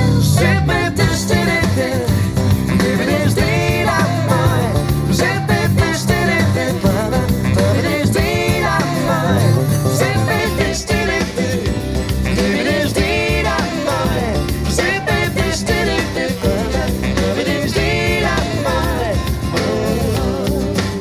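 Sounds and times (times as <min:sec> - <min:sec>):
pop song through speaker: 0:00.0 - 0:21.0.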